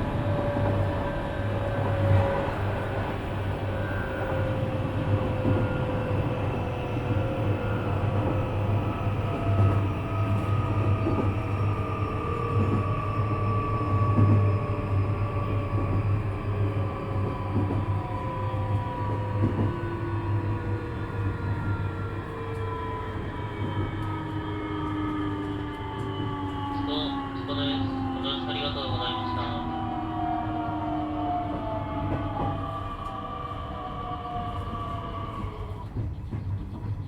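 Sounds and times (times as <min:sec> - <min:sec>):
electric train motor hum and whine: 0:00.0 - 0:36.2.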